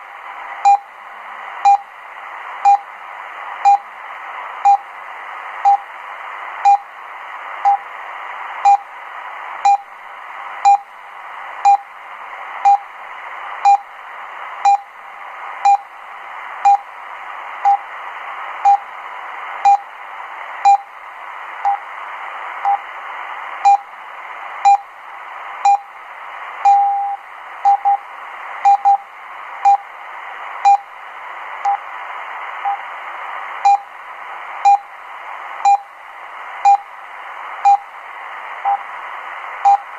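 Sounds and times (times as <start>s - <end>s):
shortwave static hiss: 0.0s - 39.9s.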